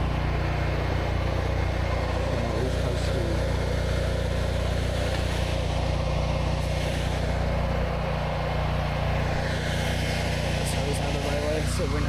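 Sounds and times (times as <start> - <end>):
pressure washer engine running: 0.0 - 12.0.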